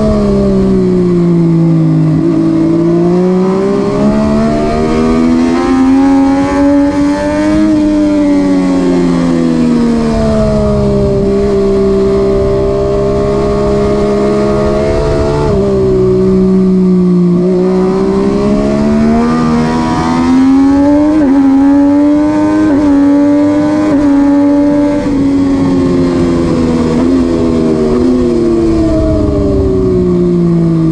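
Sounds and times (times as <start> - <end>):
motorcycle engine revving: 0.0 - 30.9
wind rush: 2.1 - 30.9.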